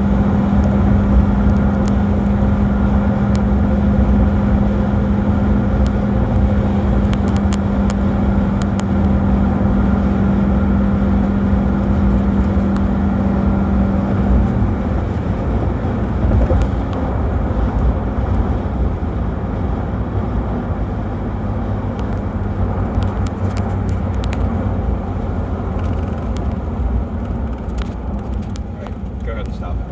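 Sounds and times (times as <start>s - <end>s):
diesel engine droning: 0.0s - 29.9s
road noise: 0.0s - 29.9s.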